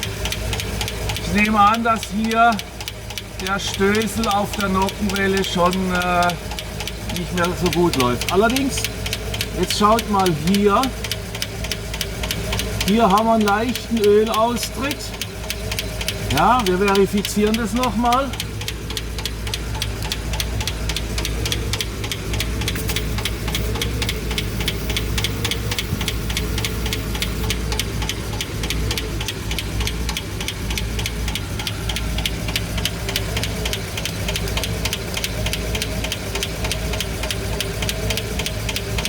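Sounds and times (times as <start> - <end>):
engine idling: 0.0 - 39.0
valve train ticking: 0.0 - 39.0.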